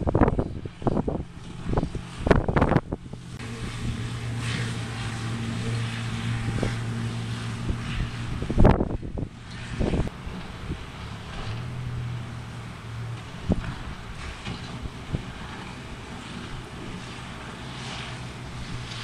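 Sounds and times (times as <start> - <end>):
boat engine running: 0.0 - 19.0
wind noise on microphone: 0.0 - 19.0.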